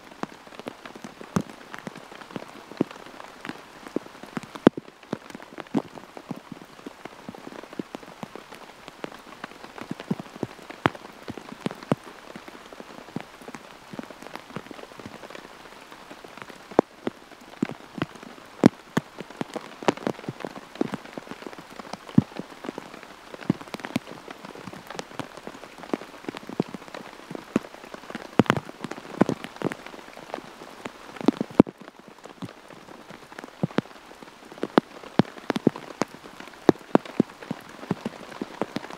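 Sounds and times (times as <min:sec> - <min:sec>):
large raindrops tapping: 0:00.0 - 0:38.9
steady rain: 0:00.0 - 0:38.9.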